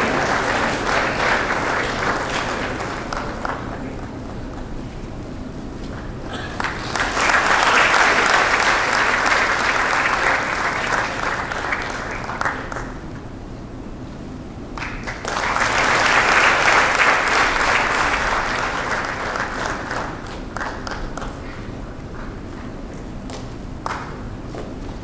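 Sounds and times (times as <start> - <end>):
audience applauding: 0.0 - 4.8, 6.1 - 13.2, 14.7 - 22.5, 23.3 - 24.3.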